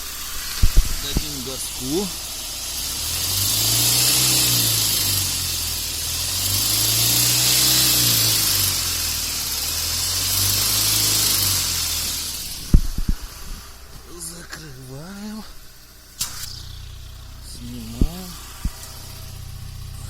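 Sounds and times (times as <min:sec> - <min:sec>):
engine revving: 0:00.0 - 0:20.0
hiss of rushing gas: 0:00.0 - 0:20.0.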